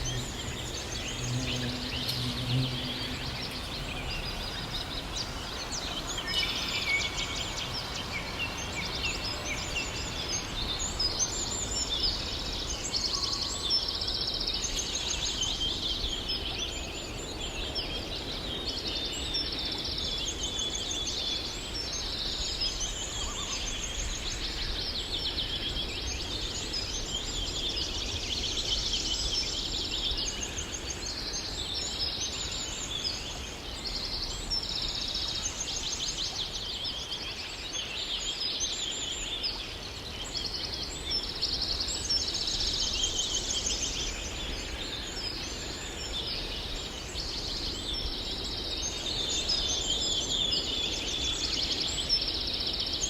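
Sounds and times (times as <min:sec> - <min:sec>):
songbirds singing and trilling: 0:00.0 - 0:53.0.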